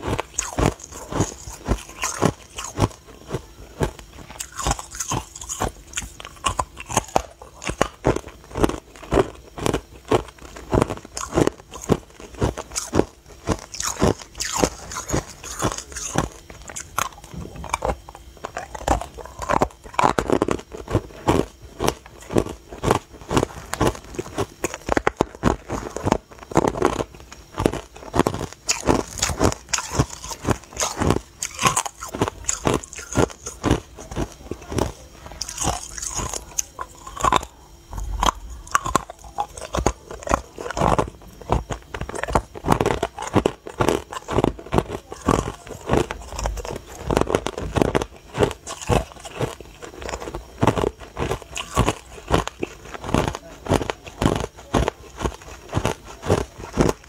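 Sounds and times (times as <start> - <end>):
ice cubes crunching in mouth: 0.0 - 57.0.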